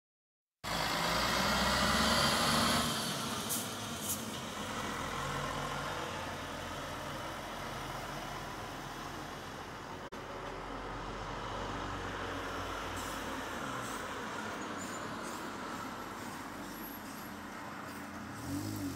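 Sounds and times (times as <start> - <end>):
road traffic rumble: 0.6 - 18.9.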